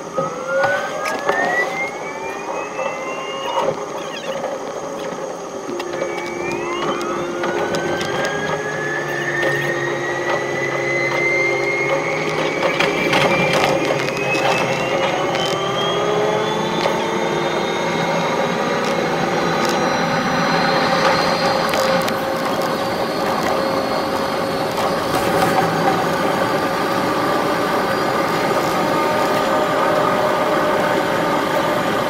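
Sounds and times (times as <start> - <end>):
electric train motor whine: 0.0 - 32.0
wheels clattering on rail joints: 0.0 - 32.0.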